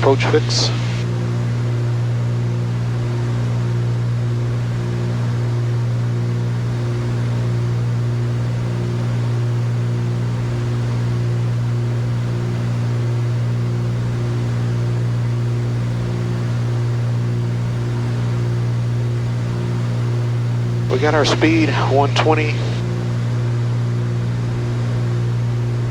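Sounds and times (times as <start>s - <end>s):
throbbing propeller engine drone: 0.0s - 25.9s.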